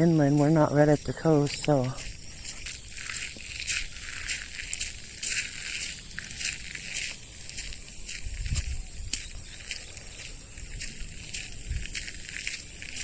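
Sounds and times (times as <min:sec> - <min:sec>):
footsteps on wet path: 0:00.0 - 0:13.0
steady high hiss: 0:00.0 - 0:13.0.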